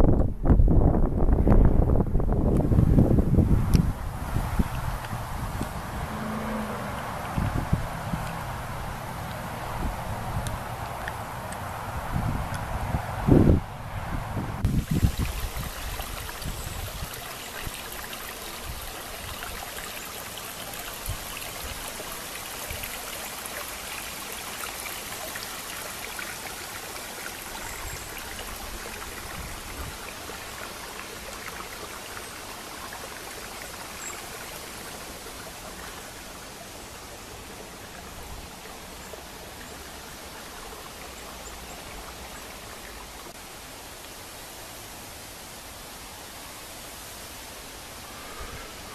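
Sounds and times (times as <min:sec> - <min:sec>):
small stream trickling: 0:00.0 - 0:48.9.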